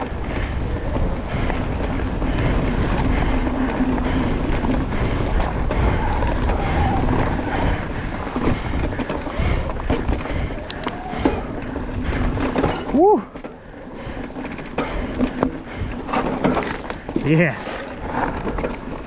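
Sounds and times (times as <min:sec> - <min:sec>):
tyre and trail noise: 0:00.0 - 0:19.0
wind buffeting microphone: 0:00.0 - 0:19.0.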